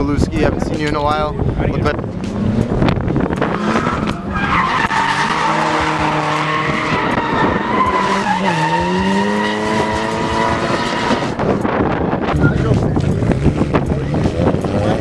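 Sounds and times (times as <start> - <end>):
car engine at high revs: 1.9 - 15.0
tires squealing: 1.9 - 15.0.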